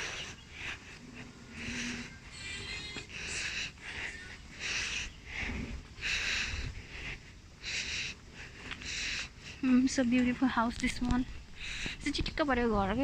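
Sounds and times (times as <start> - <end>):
person breathing heavily: 0.0 - 10.0, 11.2 - 12.2.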